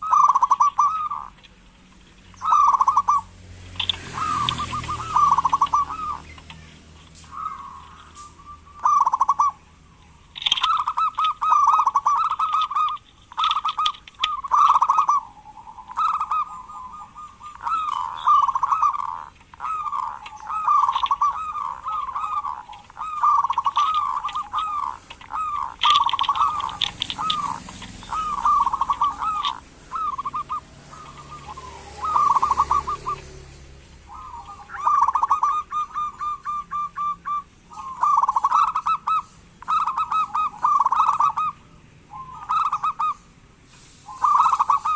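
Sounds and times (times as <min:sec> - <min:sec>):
doves cooing in stuttering phrases: 0:00.0 - 0:43.4, 0:44.0 - 0:44.9.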